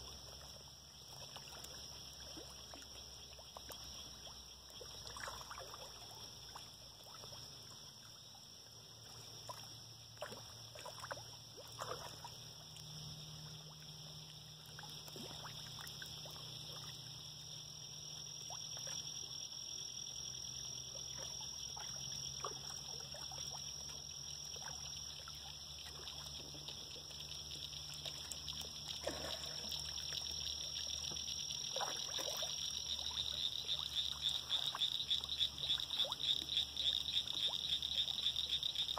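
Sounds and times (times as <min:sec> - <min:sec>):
fish splashing at pond surface: 0:00.0 - 0:07.9, 0:09.0 - 0:17.1, 0:21.1 - 0:37.6.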